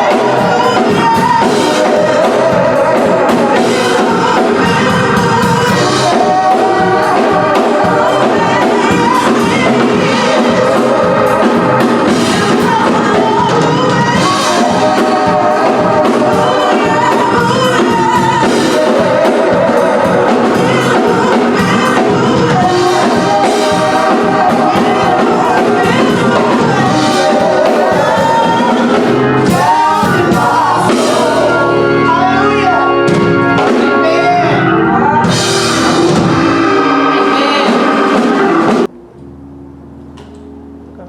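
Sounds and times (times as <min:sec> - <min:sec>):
gospel singing with instruments: 0:00.0 - 0:39.0.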